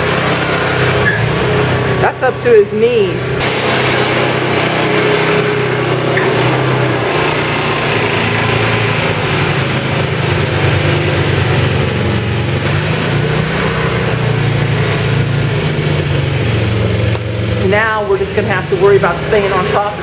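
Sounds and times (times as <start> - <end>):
snow blower engine running: 0.0 - 20.0.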